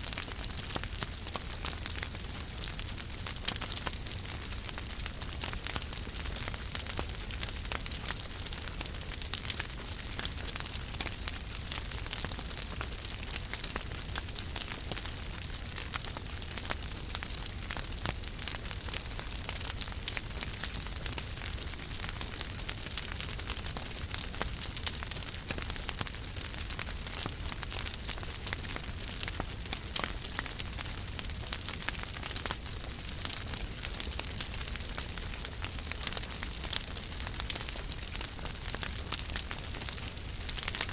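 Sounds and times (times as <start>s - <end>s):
fire crackles and pops: 0.0s - 40.9s
fire hissing and rumbling: 0.0s - 40.9s.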